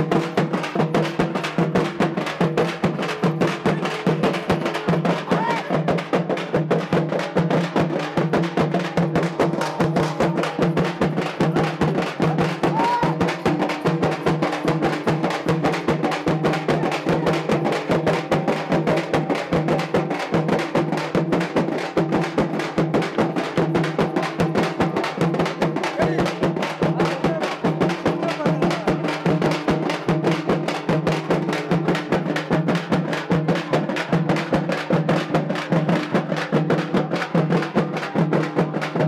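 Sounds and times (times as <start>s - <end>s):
frame drums beaten with sticks: 0.0s - 39.0s.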